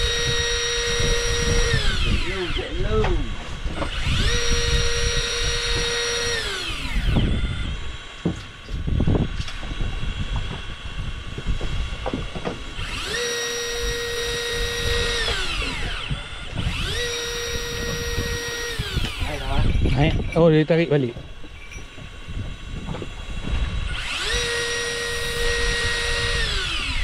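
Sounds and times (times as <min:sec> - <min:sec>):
electric fishing reel motor whining: 0:00.0 - 0:12.1, 0:12.7 - 0:20.1, 0:21.5 - 0:27.0.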